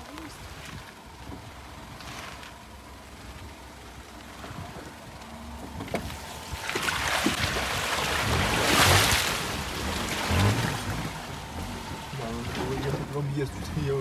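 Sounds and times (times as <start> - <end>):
small car engine: 0.0 - 14.0.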